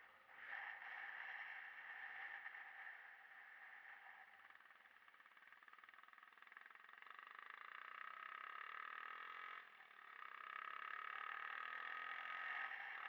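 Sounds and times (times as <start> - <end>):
faint motorcycle engine running: 0.0 - 13.0.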